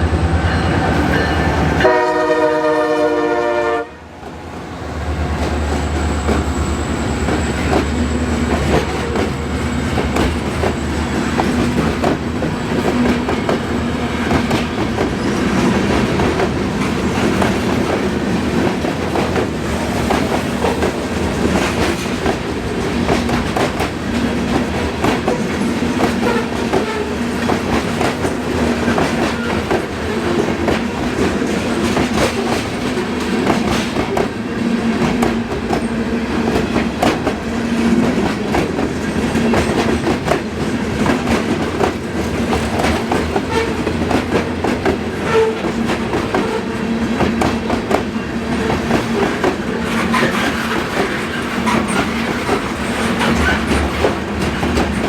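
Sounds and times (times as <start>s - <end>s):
train wheels clickety-clack: 5.1s - 55.0s.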